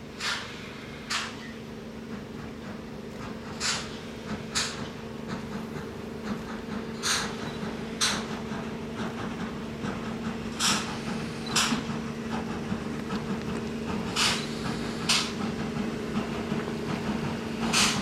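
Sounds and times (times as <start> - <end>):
steam locomotive exhaust hissing: 0.0 - 18.0.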